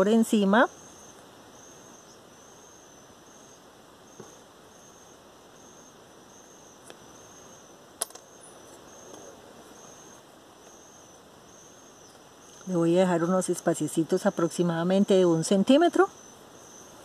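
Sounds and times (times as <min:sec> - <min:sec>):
insect chirring trill: 0:00.0 - 0:17.0.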